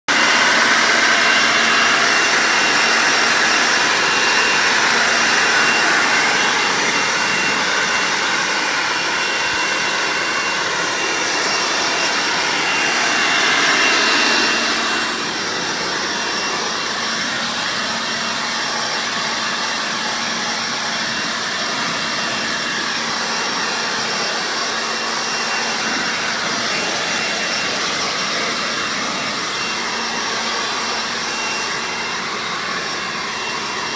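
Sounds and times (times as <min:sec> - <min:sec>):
electric leaf blower running: 0:00.1 - 0:33.9.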